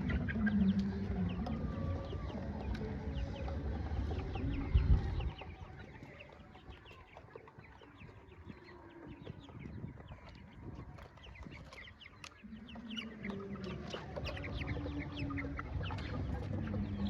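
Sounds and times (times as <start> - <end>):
young chickens peeping: 0.0 - 17.0.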